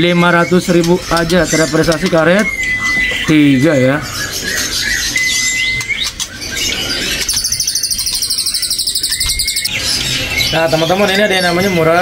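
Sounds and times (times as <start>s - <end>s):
fast high bird trill: 0.0s - 12.0s
songbirds chirping: 0.0s - 12.0s.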